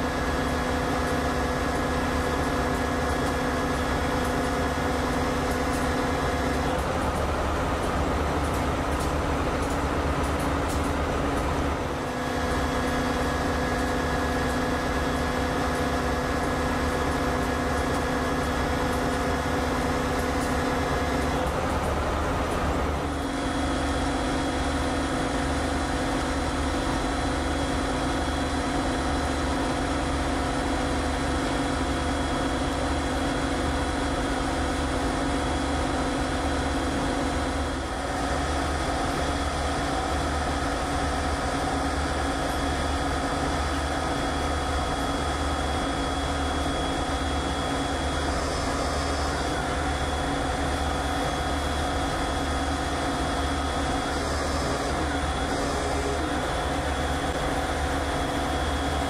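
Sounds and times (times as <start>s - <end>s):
large engine idling: 0.0s - 59.0s.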